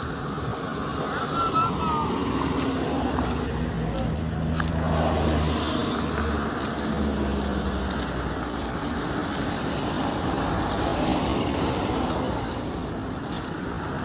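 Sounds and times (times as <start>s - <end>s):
passing traffic: 0.0s - 14.0s.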